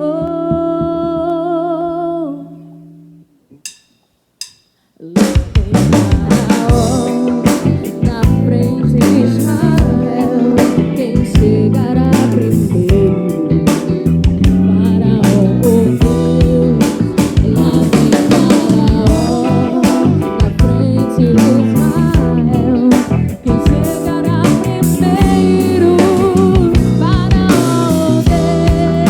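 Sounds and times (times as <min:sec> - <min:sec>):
gospel band playing: 0:05.3 - 0:29.0.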